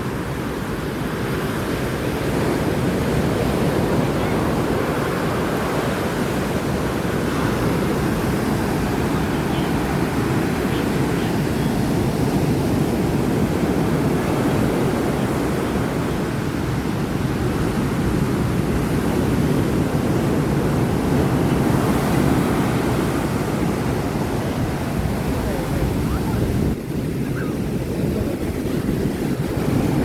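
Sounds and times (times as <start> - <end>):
heavy surf rushing: 0.0 - 30.0
wind buffeting microphone: 0.0 - 30.0.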